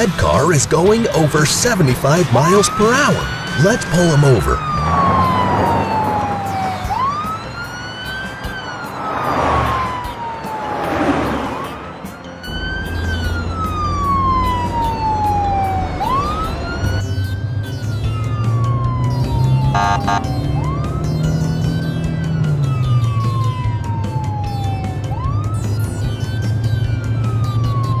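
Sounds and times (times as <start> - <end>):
police car siren wailing: 0.0 - 28.0
low vehicle hum: 4.6 - 28.0.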